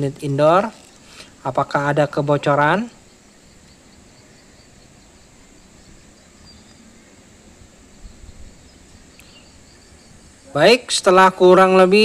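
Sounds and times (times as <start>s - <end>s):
outdoor background noise: 0.0s - 12.0s
faint high chirping: 0.5s - 10.9s.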